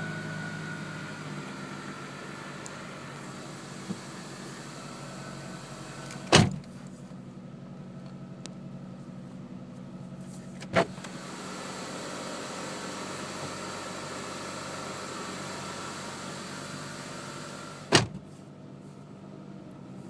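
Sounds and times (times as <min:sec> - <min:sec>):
car engine idling high: 0:00.0 - 0:20.0.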